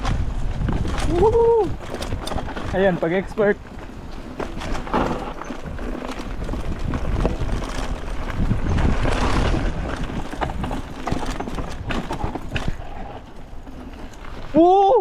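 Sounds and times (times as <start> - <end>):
mountain bike rattling over bumps: 0.0 - 15.0
wind rumble on microphone: 0.0 - 15.0.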